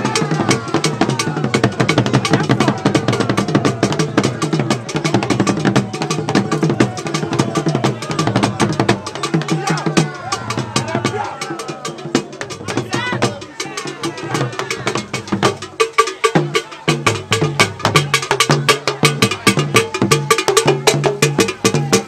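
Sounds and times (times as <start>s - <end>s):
drums playing rhythm: 0.0s - 22.0s.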